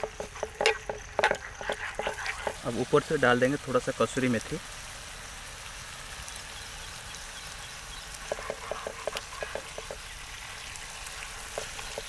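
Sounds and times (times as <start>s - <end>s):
chicken sizzling in skillet: 0.0s - 12.0s.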